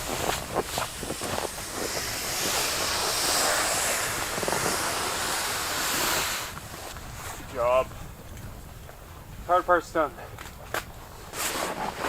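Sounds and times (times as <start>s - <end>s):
footsteps crunching in snow: 0.0s - 9.4s, 10.3s - 12.0s
strong wind buffeting microphone: 0.0s - 12.0s.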